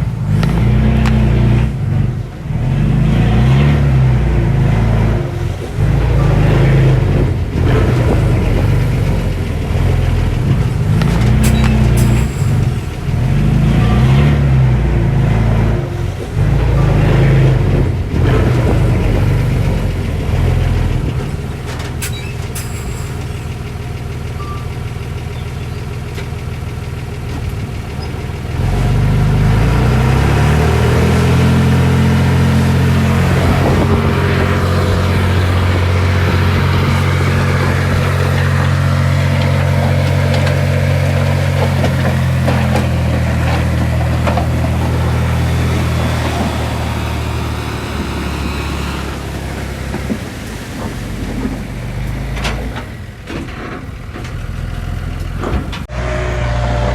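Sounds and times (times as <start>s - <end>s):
heavy diesel engine revving: 0.0s - 56.9s.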